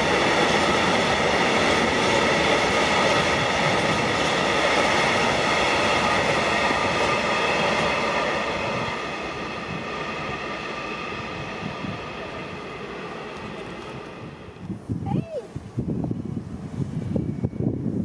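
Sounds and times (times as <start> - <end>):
high-pitched train whine: 0.0 - 14.8, 15.8 - 18.0
train rumbling past: 0.0 - 14.9, 15.7 - 18.0.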